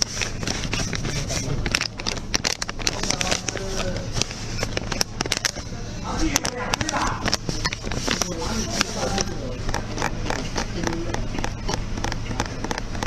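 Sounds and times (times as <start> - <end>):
faint voices: 0.0 - 13.0
sharp clicks and taps: 0.0 - 13.0.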